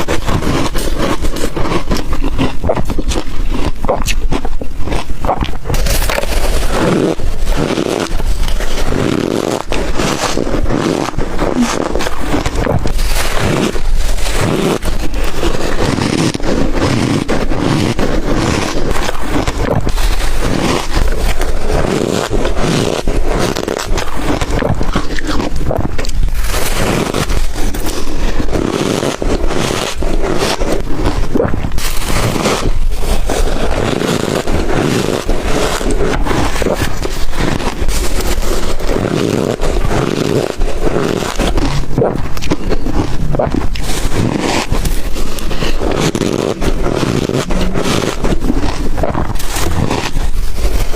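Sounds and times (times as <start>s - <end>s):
ice crunching being chewed: 0.0s - 50.9s.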